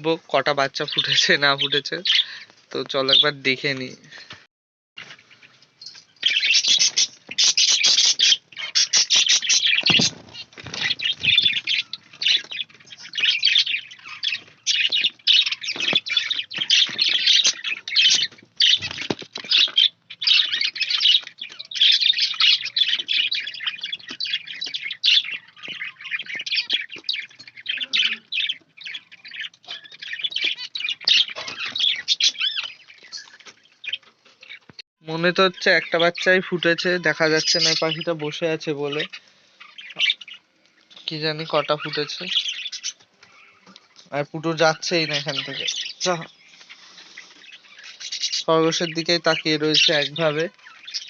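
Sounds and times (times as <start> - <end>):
birds chirping and chattering: 0.0 - 51.0.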